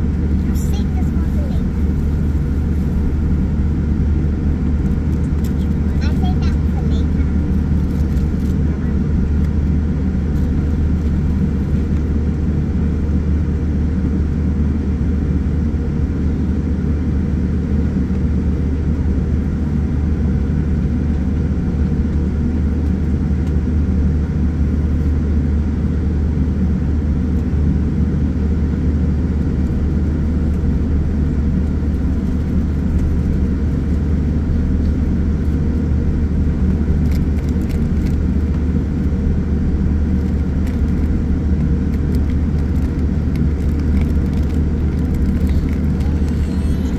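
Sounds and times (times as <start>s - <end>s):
airliner cabin rumble: 0.0s - 46.9s
steady low hum: 0.0s - 46.9s.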